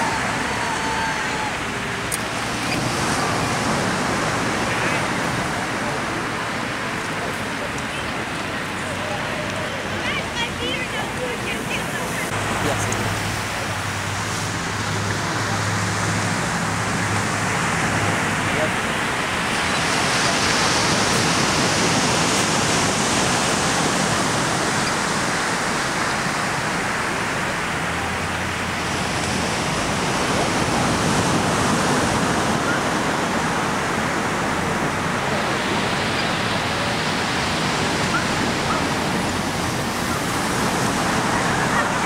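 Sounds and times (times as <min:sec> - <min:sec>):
ocean surf on beach: 0:00.0 - 0:42.0.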